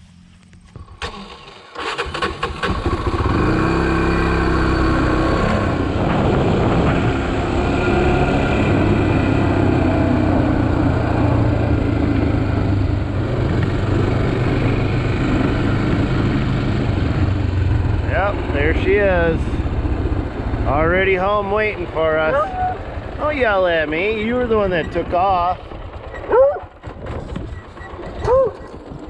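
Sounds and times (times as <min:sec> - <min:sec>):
atv engine accelerating: 0:00.0 - 0:29.0.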